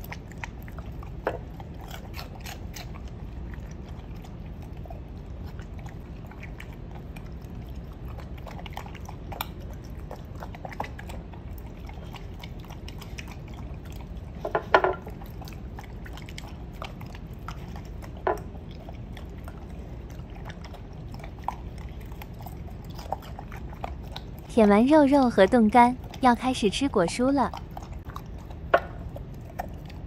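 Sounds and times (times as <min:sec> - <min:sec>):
puppy lapping and chewing: 0:00.0 - 0:30.0.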